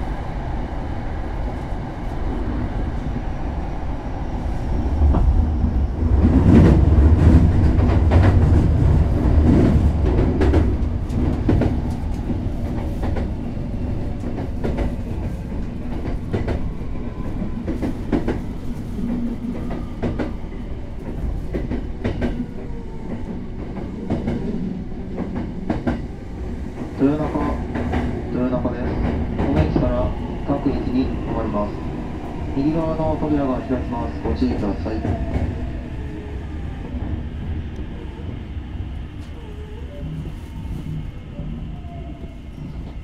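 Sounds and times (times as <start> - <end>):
train running rumble: 3.9 - 43.0.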